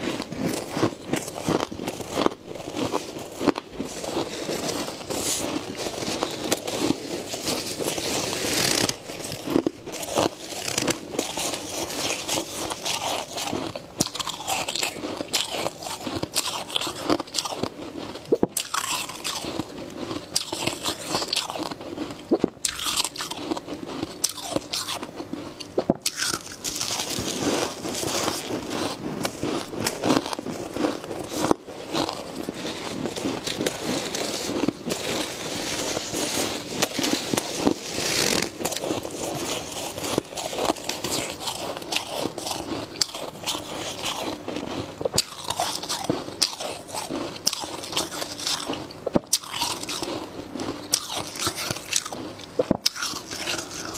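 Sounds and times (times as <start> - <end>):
hands scooping and squeezing frost: 0.0 - 22.2, 26.3 - 48.9
chewing packed frost: 0.0 - 53.9.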